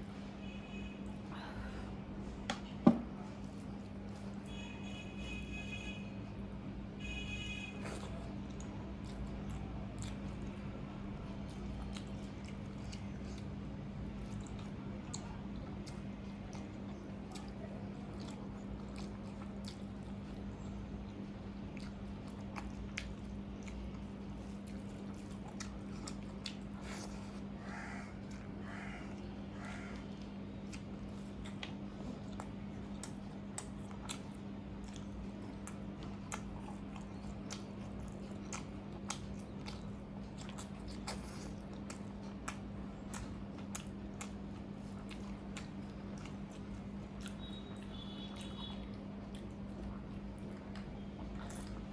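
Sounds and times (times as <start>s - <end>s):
steady low hum: 0.0s - 51.9s
person chewing wetly: 3.0s - 51.9s.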